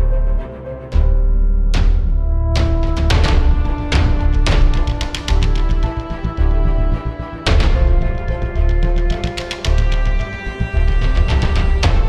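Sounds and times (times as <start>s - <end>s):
sustained orchestral tones: 0.0s - 12.0s
deep booming percussion hits: 1.0s - 12.0s.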